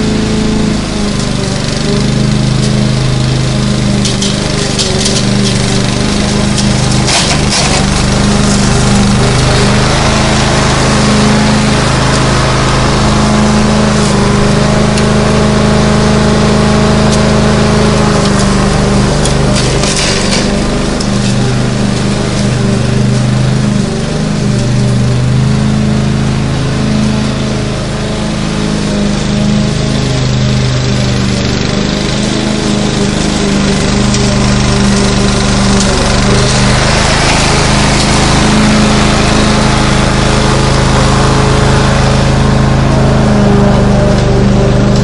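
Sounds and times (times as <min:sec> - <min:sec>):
lawn mower engine running: 0:00.0 - 0:45.0.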